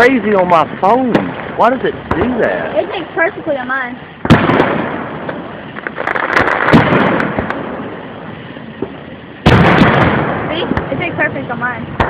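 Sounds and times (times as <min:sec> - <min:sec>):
crackling firework pops: 0:00.0 - 0:12.0
firework bangs: 0:00.0 - 0:12.0.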